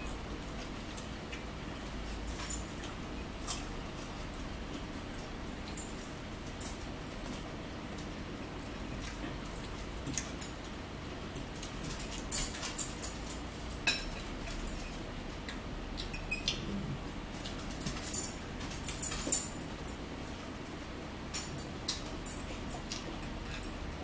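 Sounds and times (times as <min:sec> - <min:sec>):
chewing: 0:00.5 - 0:13.6, 0:14.2 - 0:19.3, 0:21.3 - 0:24.0.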